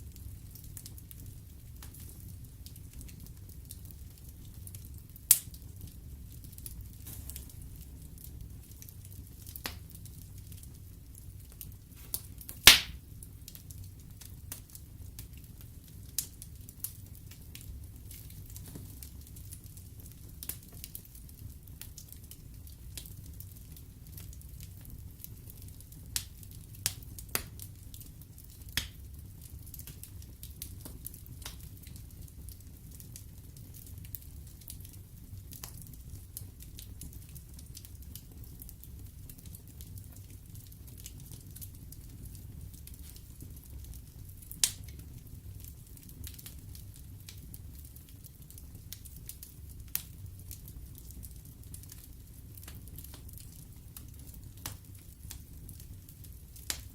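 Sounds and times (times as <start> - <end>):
fire flames rumbling: 0.0 - 56.9
logs crackling and popping: 0.1 - 56.9.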